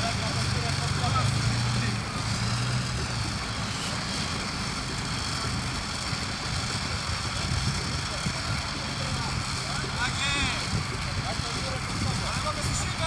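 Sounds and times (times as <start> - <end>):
engine humming at low revs: 0.0 - 13.0.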